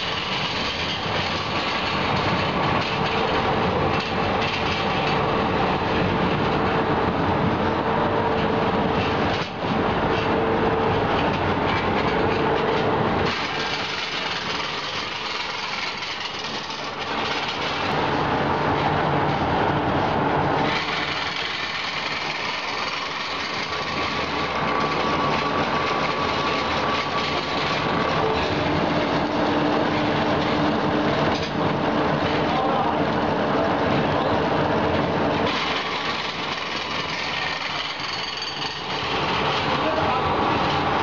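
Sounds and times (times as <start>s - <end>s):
thread rolling machine: 0.0s - 7.6s, 8.3s - 19.6s, 20.4s - 32.8s, 34.5s - 41.0s
production line machines running: 0.0s - 41.0s.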